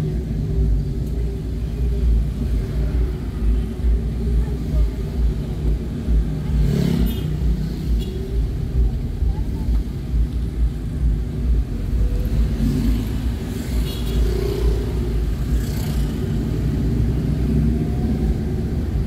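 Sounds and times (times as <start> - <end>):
engine and road rumble: 0.0 - 19.0
passing vehicles whooshing: 0.0 - 19.0.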